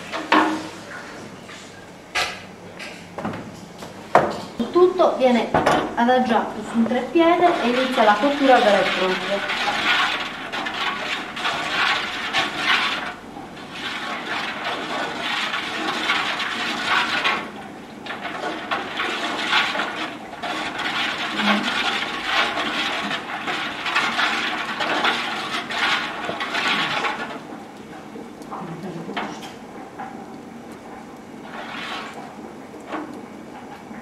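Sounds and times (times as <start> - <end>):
liquid sloshing in cauldron: 6.6 - 34.0.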